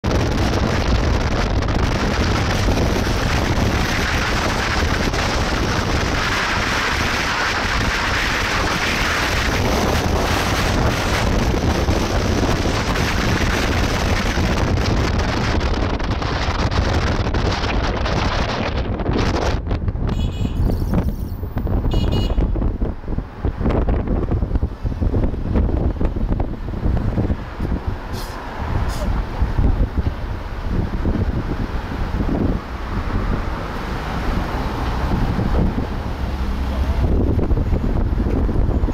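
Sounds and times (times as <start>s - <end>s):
vehicle rumble on road: 0.0s - 38.9s
wind rushing over microphone: 0.0s - 38.9s.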